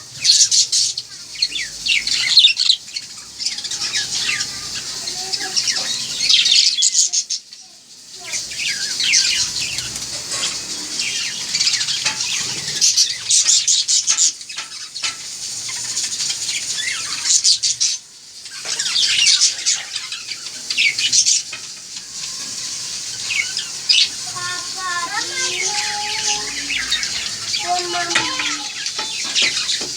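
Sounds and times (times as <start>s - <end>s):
parrots chirping and calling: 0.0s - 7.6s, 8.2s - 29.9s.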